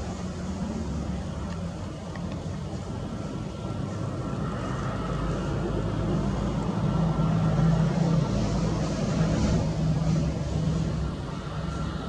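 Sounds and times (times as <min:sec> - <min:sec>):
jet engines humming with whine: 0:00.0 - 0:12.0.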